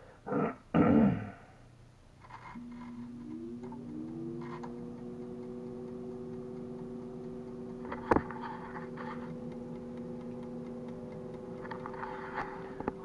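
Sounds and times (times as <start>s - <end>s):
air fryer fan humming: 2.6s - 13.0s.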